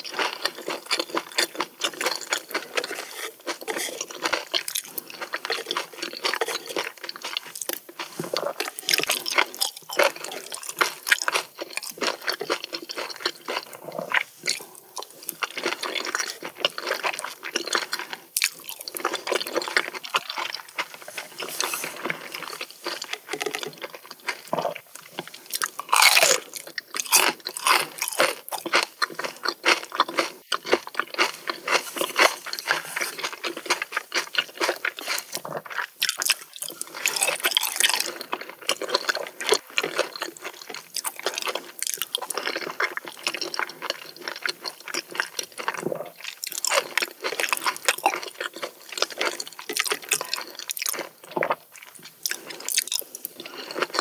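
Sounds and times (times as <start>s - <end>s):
crunchy chewing mouth sounds: 0.0s - 54.0s.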